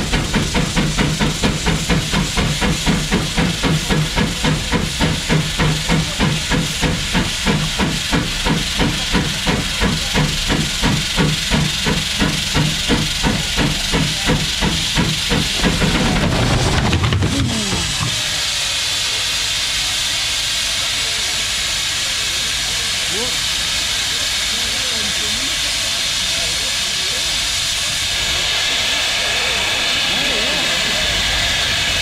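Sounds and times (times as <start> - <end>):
loud hiss of escaping steam: 0.0 - 32.0
steam engine exhaust beating: 0.0 - 32.0.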